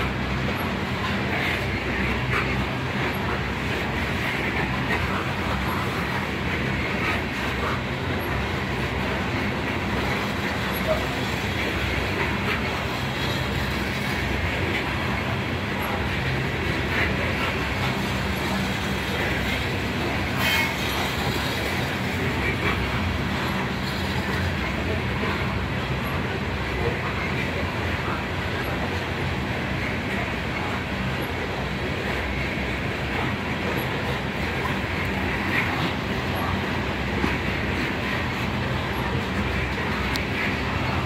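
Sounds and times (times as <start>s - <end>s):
steel wheels rumbling on rail: 0.0s - 41.0s.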